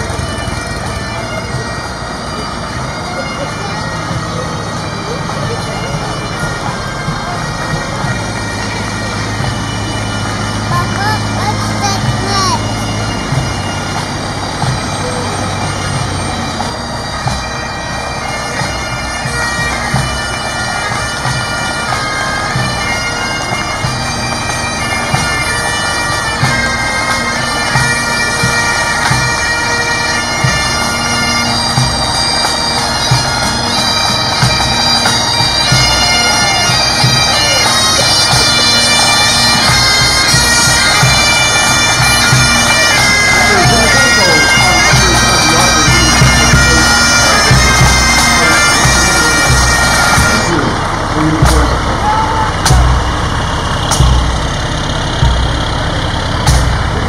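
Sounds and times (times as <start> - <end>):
bagpipes playing over drone: 0.0 - 57.0.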